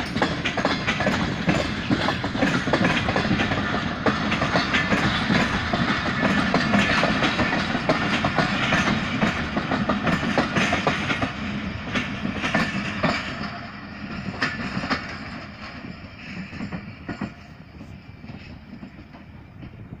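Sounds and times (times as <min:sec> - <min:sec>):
train wheels clattering: 0:00.0 - 0:20.0.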